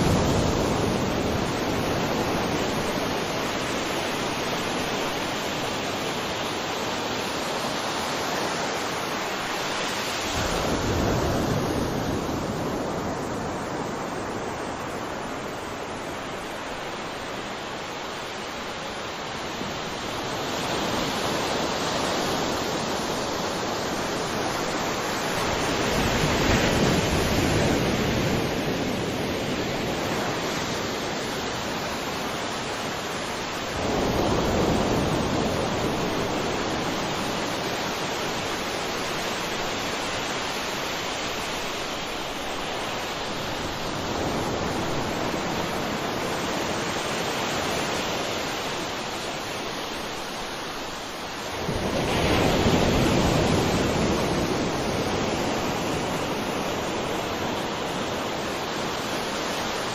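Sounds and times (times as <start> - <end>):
ocean waves on shore: 0.0 - 59.9.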